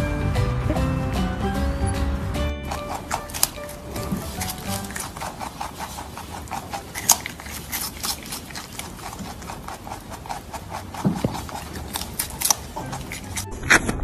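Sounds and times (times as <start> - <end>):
rabbit crunching vegetables: 2.6 - 14.0.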